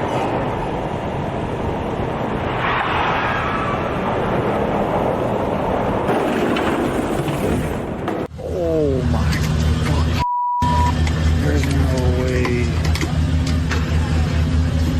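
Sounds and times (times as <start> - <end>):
road vehicle noise: 0.0 - 14.9.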